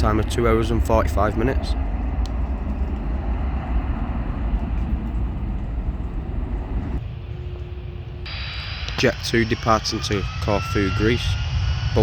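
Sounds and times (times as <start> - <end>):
jet engines roaring: 0.0 - 12.0
low hum: 0.0 - 12.0.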